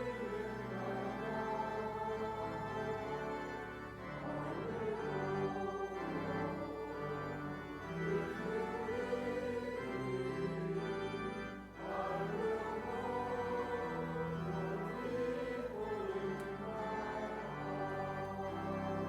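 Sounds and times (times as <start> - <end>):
organ playing sustained chords: 0.0 - 19.0
voices singing: 0.0 - 19.0.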